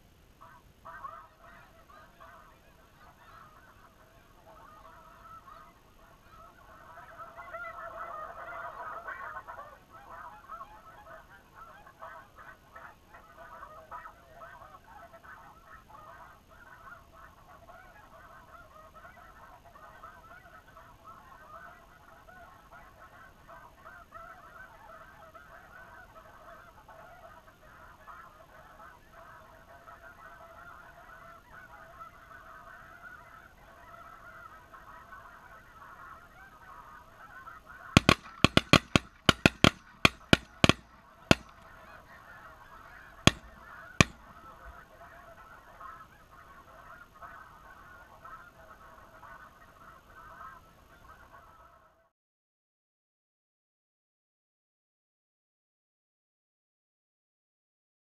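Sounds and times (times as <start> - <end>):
geese honking: 0.4 - 52.1.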